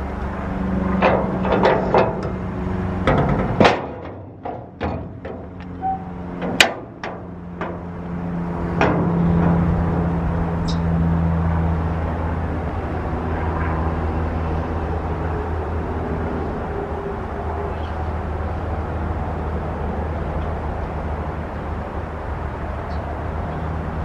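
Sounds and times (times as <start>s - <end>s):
truck engine humming: 0.0s - 24.0s.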